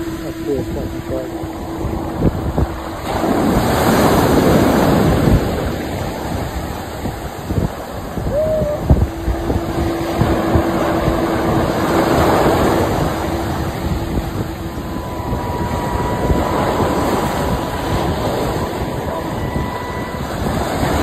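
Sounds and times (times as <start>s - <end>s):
steady tone: 0.0s - 21.0s
surf washing: 0.0s - 21.0s
wind buffeting microphone: 0.0s - 21.0s.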